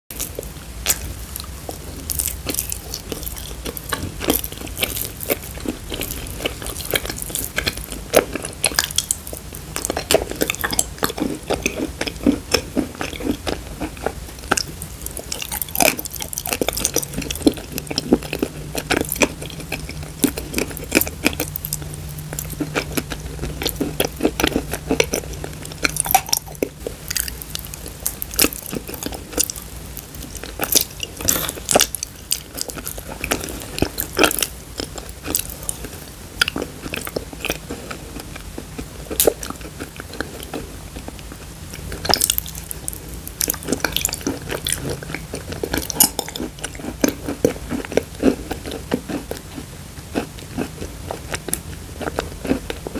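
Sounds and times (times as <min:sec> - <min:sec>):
chewing and biting paste: 0:00.1 - 0:52.9
low steady hum: 0:00.1 - 0:52.9.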